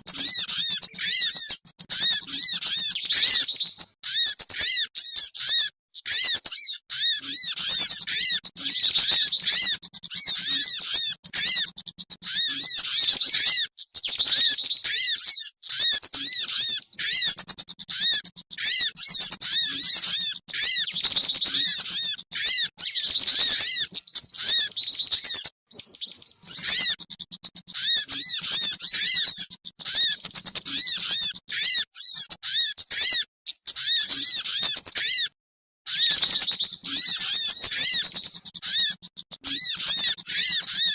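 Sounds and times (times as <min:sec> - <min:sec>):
rapid high-pitched bird chirps: 0:00.0 - 0:40.9.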